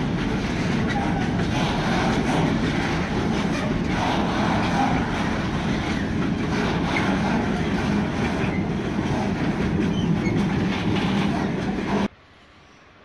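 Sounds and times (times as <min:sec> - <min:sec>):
freight train wheels rumbling: 0:00.0 - 0:12.1.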